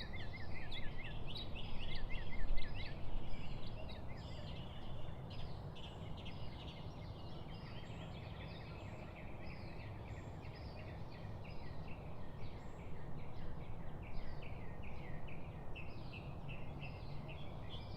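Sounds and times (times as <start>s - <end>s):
many birds chirping: 0.0s - 17.9s.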